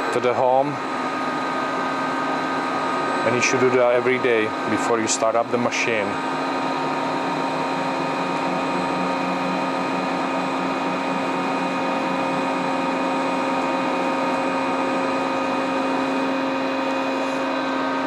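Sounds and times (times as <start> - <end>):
machine whine over hum: 0.0 - 18.0.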